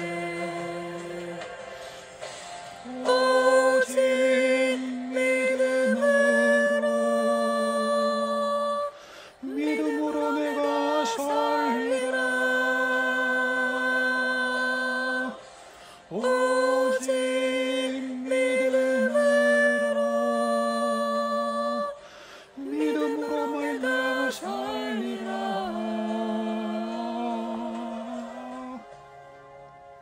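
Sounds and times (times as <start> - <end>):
person singing worship song: 0.0 - 29.5.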